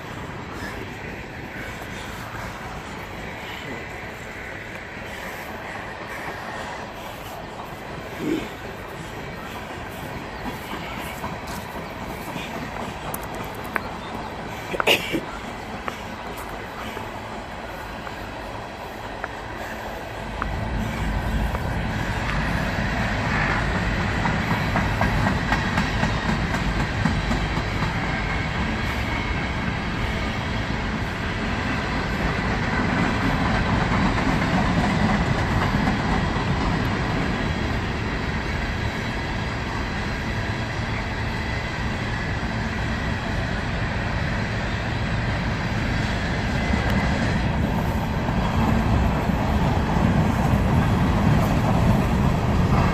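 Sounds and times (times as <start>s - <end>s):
freight train wheels rumbling on rails: 0.0s - 52.9s.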